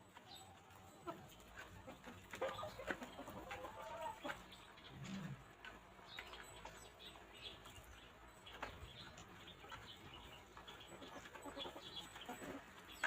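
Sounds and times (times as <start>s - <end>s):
faint chirps and ticks: 0.0s - 13.0s
hens clucking: 0.0s - 13.0s.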